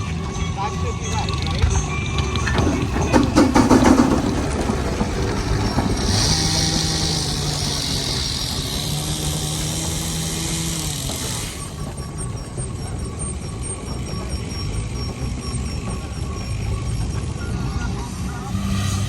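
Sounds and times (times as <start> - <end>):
engines running: 0.0 - 19.0.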